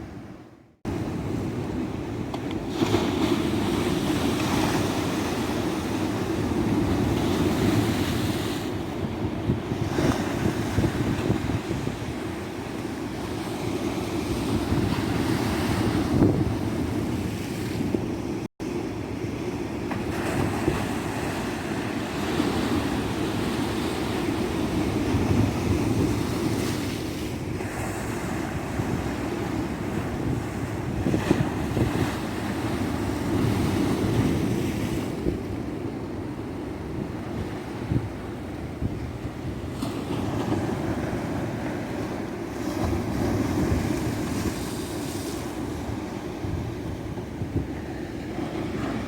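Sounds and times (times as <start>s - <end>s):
ocean surf on sandy beach: 0.0s - 49.0s
wind rumble on microphone: 0.0s - 49.0s.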